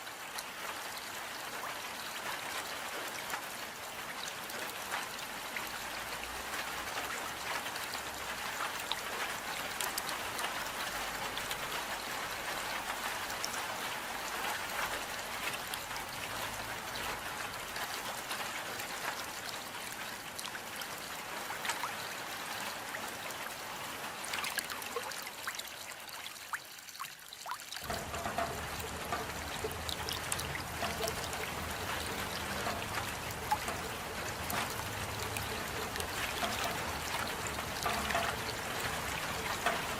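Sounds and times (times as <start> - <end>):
steady rain hiss: 0.0 - 24.3, 27.8 - 39.9
water trickling and dripping: 0.0 - 39.9.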